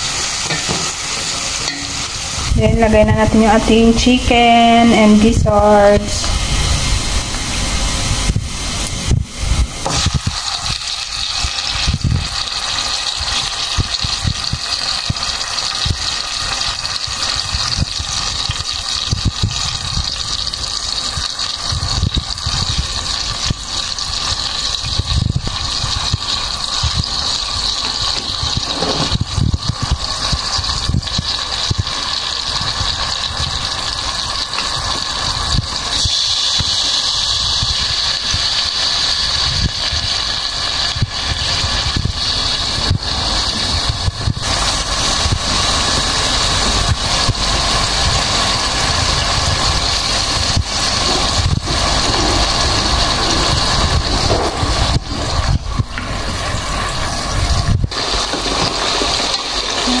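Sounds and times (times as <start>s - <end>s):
oil sizzling: 0.0s - 60.0s.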